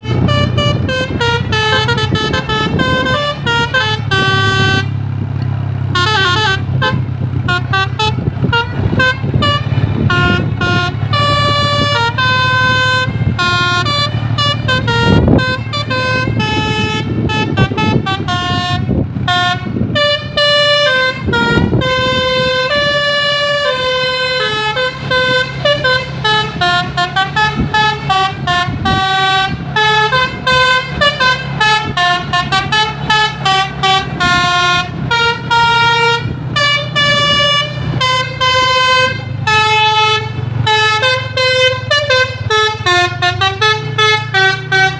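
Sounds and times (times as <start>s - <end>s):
musical air horn melody: 0.0s - 5.0s, 5.9s - 44.9s
bus engine humming: 0.0s - 44.9s.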